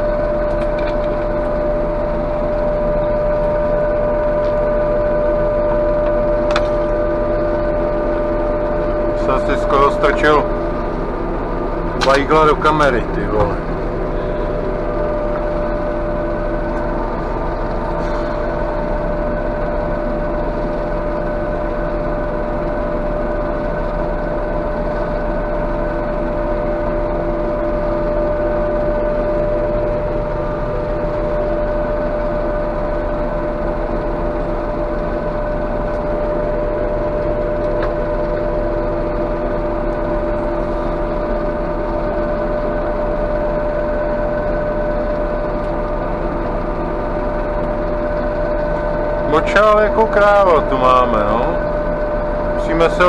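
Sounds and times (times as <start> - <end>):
constant whine: 0.0 - 53.0
harvester engine running: 0.0 - 53.0.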